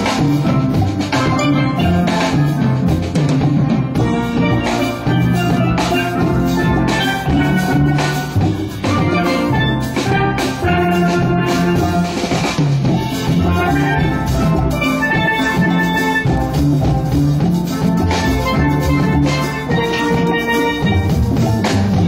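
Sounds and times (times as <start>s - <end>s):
steelpans ringing: 0.0s - 3.2s, 4.0s - 22.0s
low bass notes: 0.0s - 22.0s
steady drum beat: 0.0s - 22.0s.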